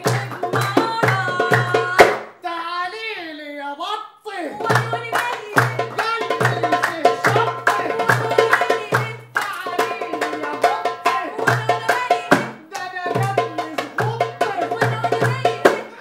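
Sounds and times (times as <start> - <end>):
goblet drum played by hand: 0.0 - 2.2, 4.6 - 16.0
person singing: 0.0 - 16.0.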